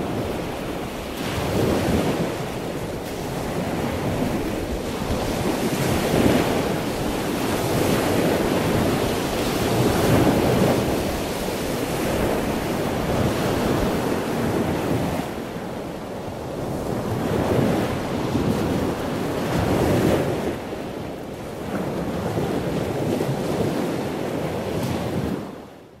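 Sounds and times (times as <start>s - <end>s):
surf washing onto beach: 0.0s - 25.8s
wind buffeting microphone: 0.0s - 26.0s.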